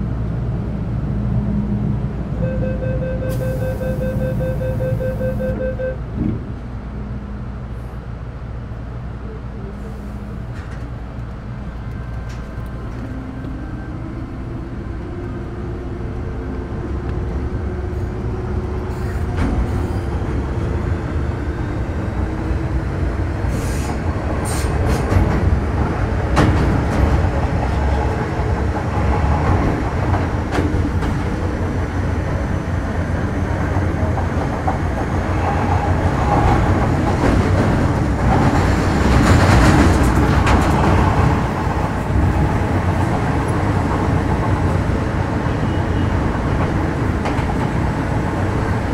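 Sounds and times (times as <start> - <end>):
wheel and track rumble: 6.0 - 48.9.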